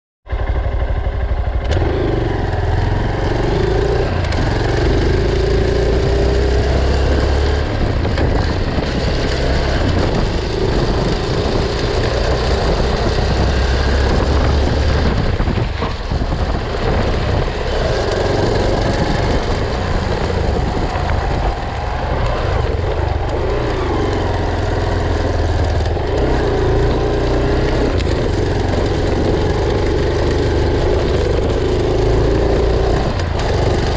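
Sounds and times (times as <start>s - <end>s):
motorcycle engine revving: 0.3s - 33.9s.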